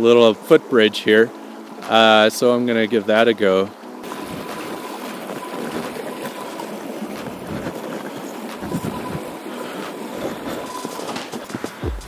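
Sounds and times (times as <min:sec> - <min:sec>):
creek water rushing: 0:00.0 - 0:11.9.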